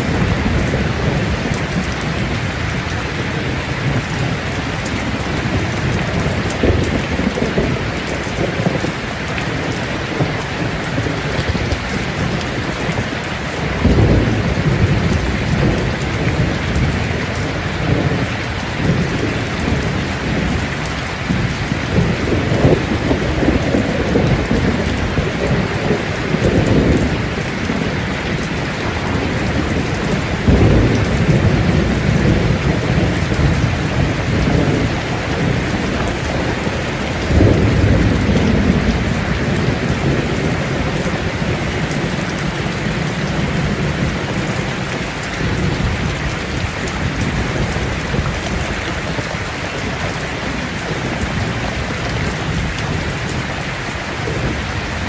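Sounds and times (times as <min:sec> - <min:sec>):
heavy rain falling: 0:00.0 - 0:55.0
thunder rumbling: 0:00.0 - 0:55.0.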